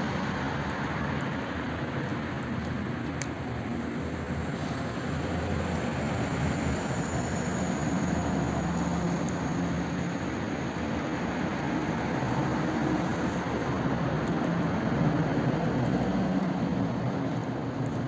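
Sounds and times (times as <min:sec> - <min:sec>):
fire burning: 0:00.0 - 0:18.0
fire crackles: 0:00.0 - 0:18.0.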